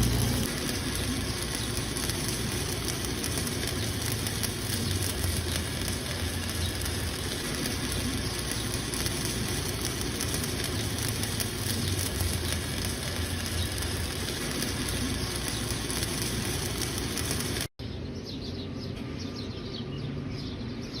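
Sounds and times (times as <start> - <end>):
arc welding crackling hiss: 0.0 - 17.7.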